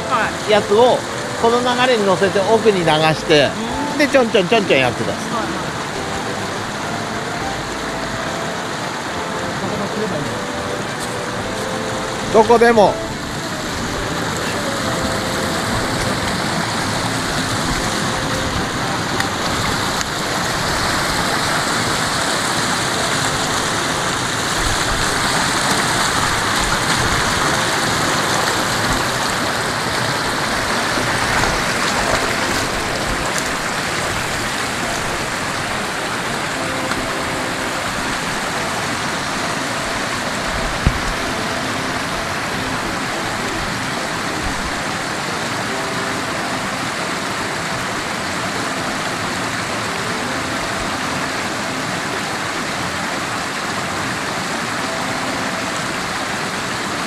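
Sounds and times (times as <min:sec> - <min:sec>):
mountain stream rushing over rocks: 0:00.0 - 0:57.0.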